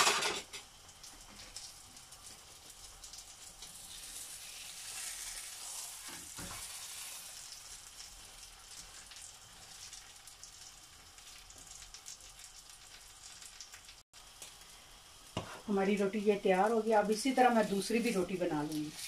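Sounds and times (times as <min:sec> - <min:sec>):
flatbread sizzling on a griddle: 0:00.0 - 0:19.0.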